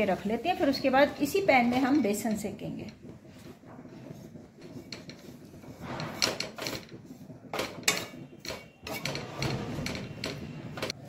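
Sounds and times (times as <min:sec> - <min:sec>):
wooden spatula scraping a pan: 0:00.0 - 0:11.0.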